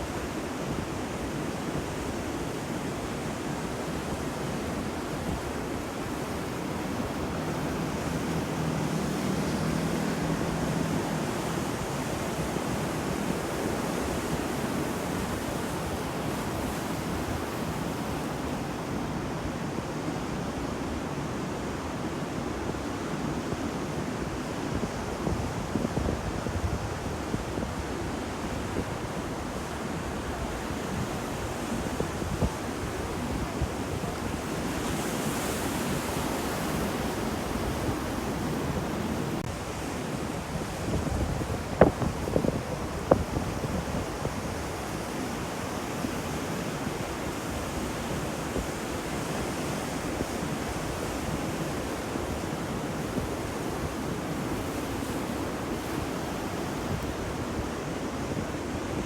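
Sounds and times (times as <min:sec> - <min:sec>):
sea waves washing onto shore: 0:00.0 - 0:59.0.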